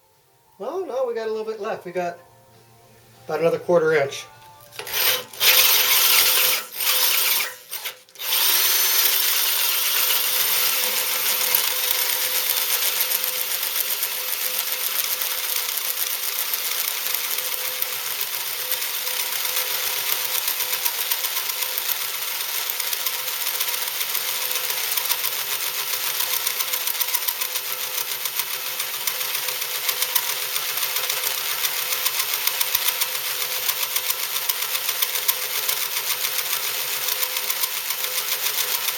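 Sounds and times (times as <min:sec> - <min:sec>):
electric drill cutting through metal: 0:04.7 - 0:38.9.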